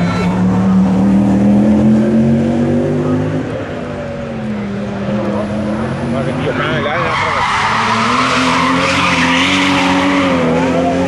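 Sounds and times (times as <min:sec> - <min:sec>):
rally car engine pulling hard: 0:00.0 - 0:11.0.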